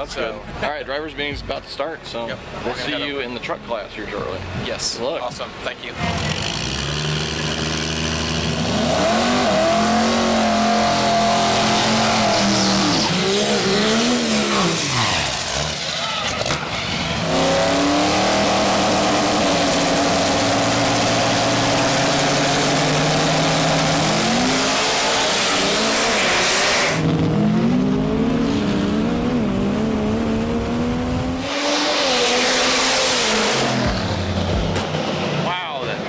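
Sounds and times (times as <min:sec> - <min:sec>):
diesel truck engine at full throttle: 0:00.0 - 0:36.0
pickup engine racing: 0:02.4 - 0:36.0.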